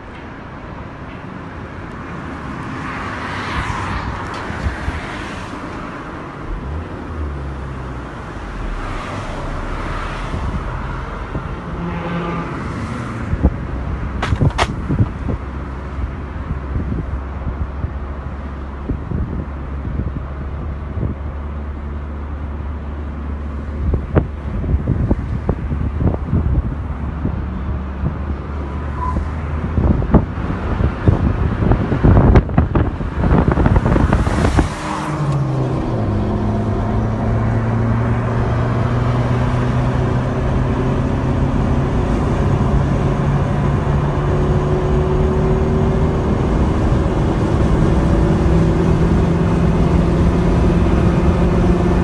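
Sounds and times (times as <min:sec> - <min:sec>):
car engine: 0:00.0 - 0:52.0
road noise inside car: 0:00.0 - 0:52.0
wind buffeting microphone: 0:03.6 - 0:21.8, 0:23.4 - 0:52.0.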